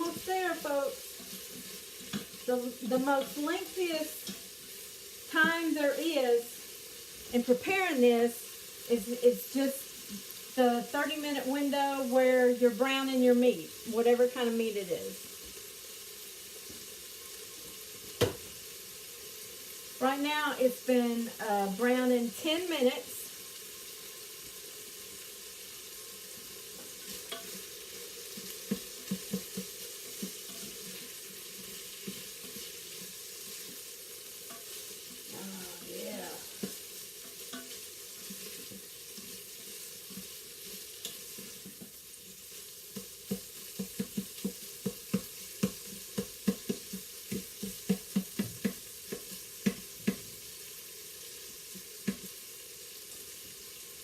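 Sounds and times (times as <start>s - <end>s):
chicken sizzling in a pot: 0.0s - 54.0s.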